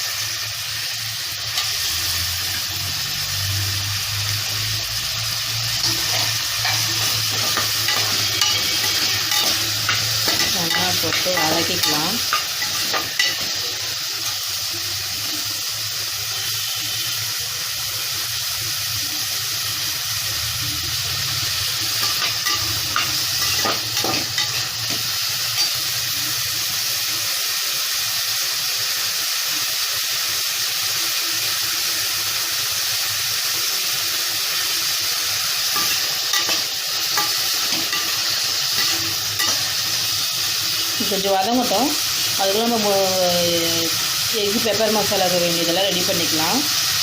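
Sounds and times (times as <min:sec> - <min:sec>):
food sizzling in oil: 0:00.0 - 0:47.0.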